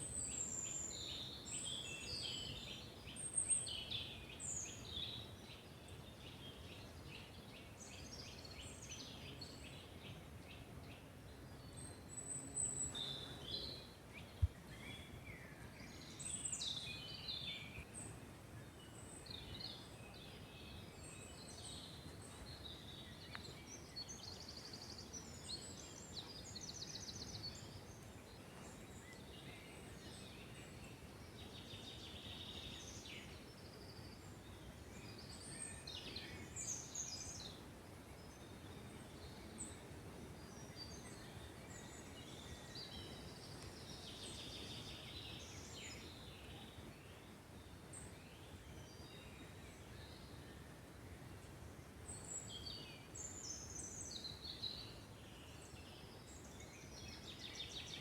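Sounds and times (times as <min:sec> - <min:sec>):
songbirds singing and trilling: 0:00.0 - 0:58.0.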